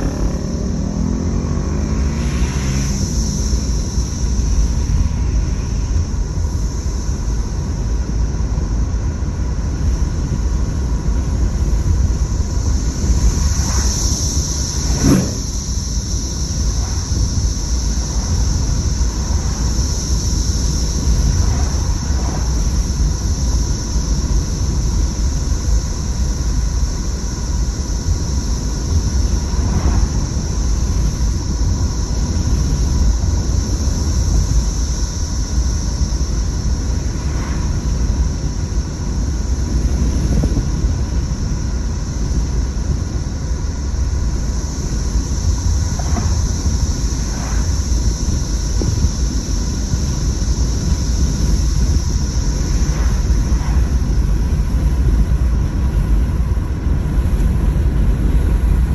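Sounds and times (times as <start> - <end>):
car driving rumble: 0.0 - 58.9
cicadas droning: 0.0 - 58.9.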